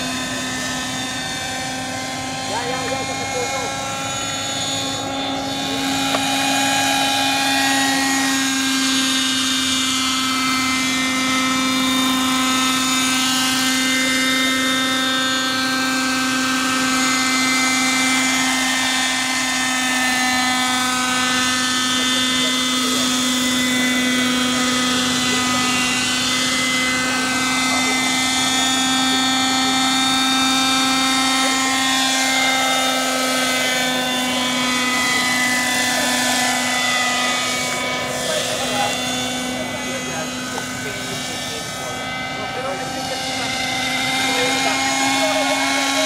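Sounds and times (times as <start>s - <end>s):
model helicopter high-pitched whine: 0.0s - 46.0s.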